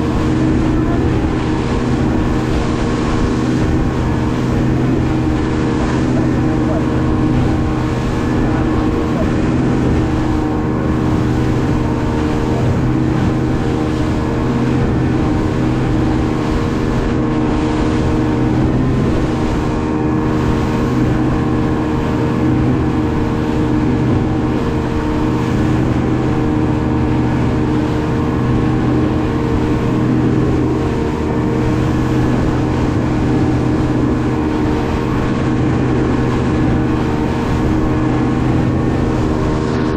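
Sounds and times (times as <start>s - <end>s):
speedboat engine drone: 0.0s - 39.9s
water rushing along hull: 0.0s - 39.9s.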